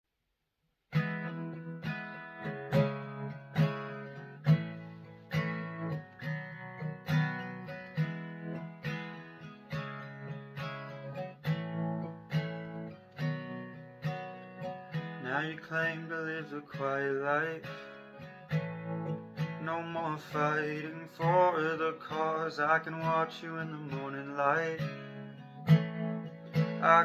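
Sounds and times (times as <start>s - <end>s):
acoustic guitar strumming chords: 0.9s - 27.0s.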